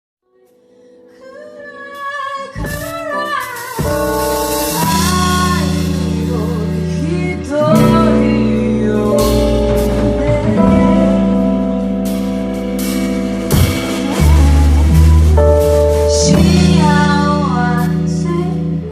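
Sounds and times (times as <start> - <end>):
person singing: 0.3 - 12.4, 13.5 - 18.9
live band playing: 1.8 - 18.9.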